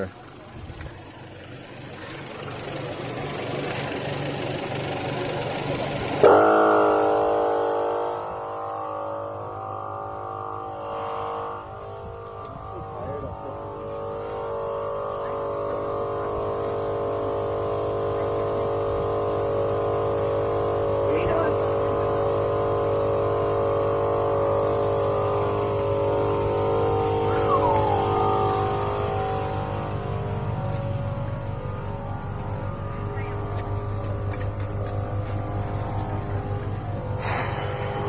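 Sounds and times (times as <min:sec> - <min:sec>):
motor humming: 0:00.0 - 0:38.0.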